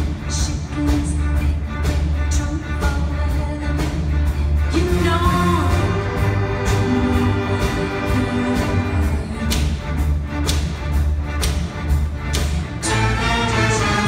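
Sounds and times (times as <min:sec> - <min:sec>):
rock band with orchestra: 0:00.0 - 0:14.0.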